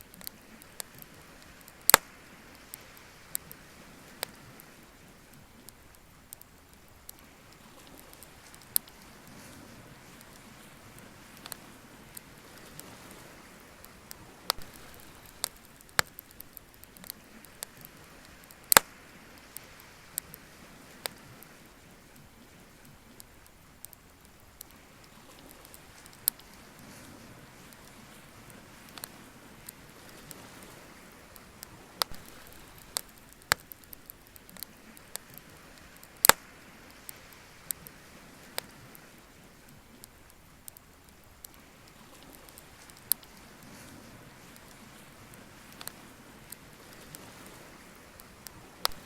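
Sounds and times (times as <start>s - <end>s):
bonfire wood crackling: 0.0s - 49.0s.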